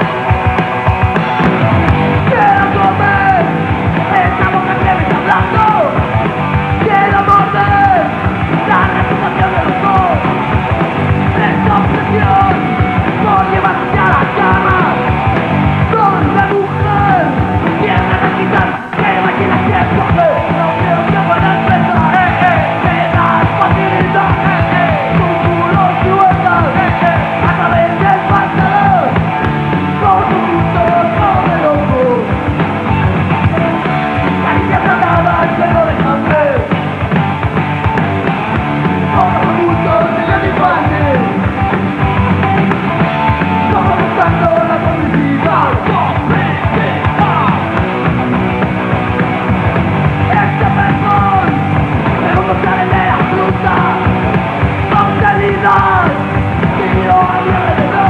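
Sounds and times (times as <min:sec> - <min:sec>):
bass: 0:00.0 - 0:58.0
distorted electric guitars: 0:00.0 - 0:58.0
drums: 0:00.0 - 0:58.0
shouted rock vocals: 0:00.0 - 0:58.0.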